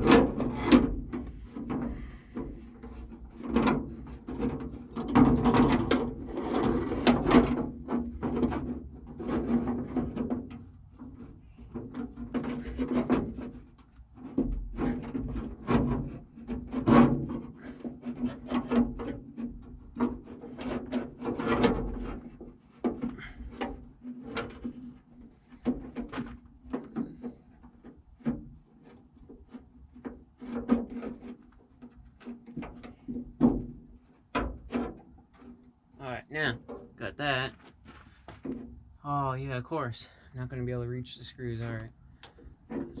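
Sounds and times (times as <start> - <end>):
metal rubbing on door panel: 0.0 - 35.7.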